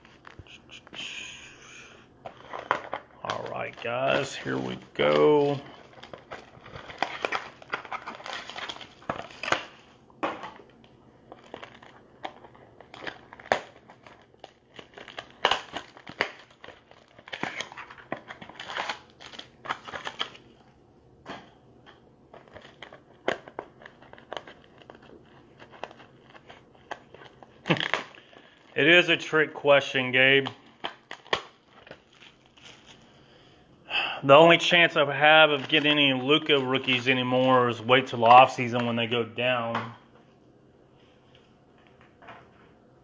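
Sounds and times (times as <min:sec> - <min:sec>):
plastic wrap crinkling: 0:01.7 - 0:20.7, 0:21.8 - 0:33.6, 0:34.4 - 0:39.7.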